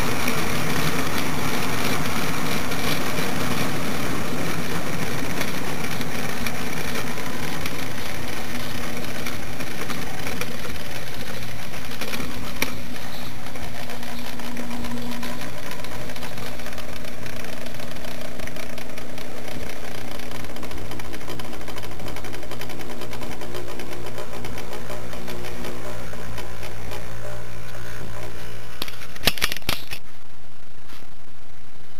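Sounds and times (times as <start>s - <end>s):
model train motor whir: 0.0s - 30.1s
wheel and rail noise: 0.0s - 30.1s.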